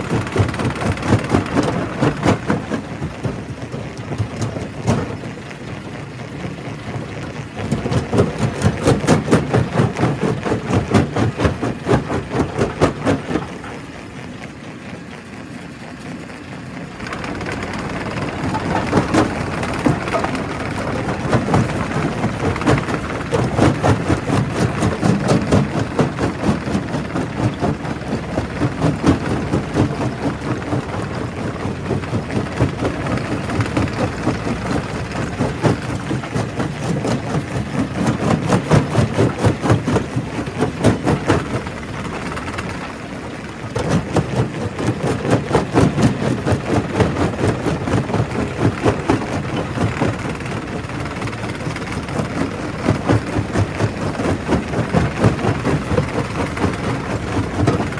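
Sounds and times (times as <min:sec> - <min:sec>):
rapid clatter of rock breaking: 0:00.0 - 0:13.9, 0:17.0 - 0:57.9
rock crusher machine drone: 0:00.0 - 0:57.9.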